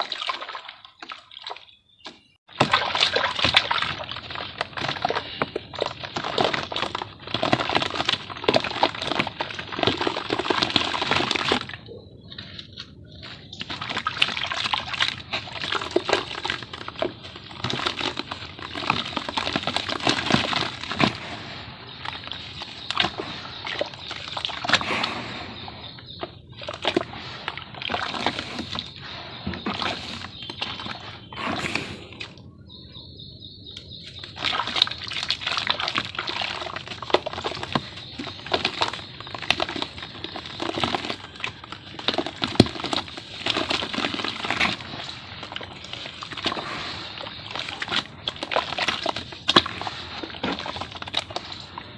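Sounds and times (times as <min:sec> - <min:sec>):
shapes crackling in water: 0:00.0 - 0:32.9, 0:33.5 - 0:51.9
water sloshing: 0:00.0 - 0:51.9.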